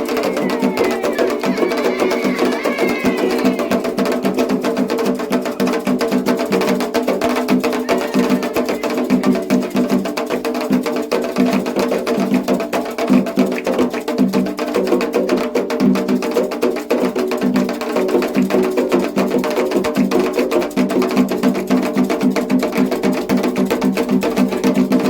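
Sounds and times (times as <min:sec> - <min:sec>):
fast hand-drumming: 0:00.0 - 0:25.0.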